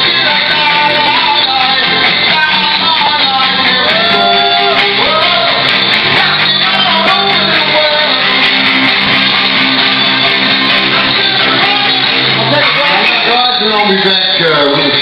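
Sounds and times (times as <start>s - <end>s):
electric guitar: 0.0s - 15.0s
live rock band playing: 0.0s - 15.0s
person singing: 0.0s - 15.0s.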